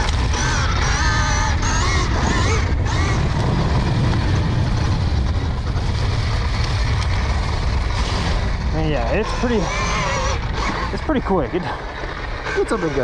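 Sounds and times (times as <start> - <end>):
electric dirt bike rumble: 0.0 - 13.0
wind rushing over microphone: 0.0 - 13.0.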